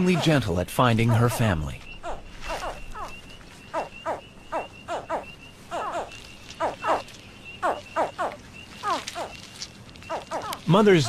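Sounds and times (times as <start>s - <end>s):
alligator hatchlings chirping: 0.0s - 11.0s.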